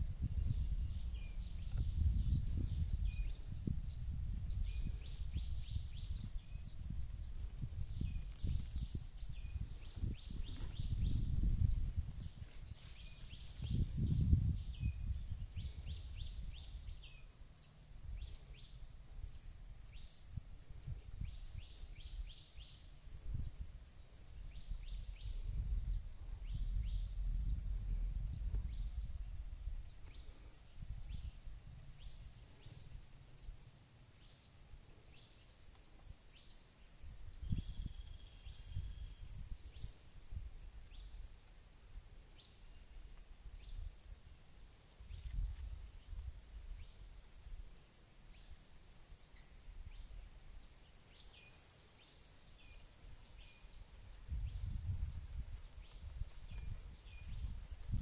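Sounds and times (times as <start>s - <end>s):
small birds chirping: 0.0s - 47.5s, 48.2s - 58.0s.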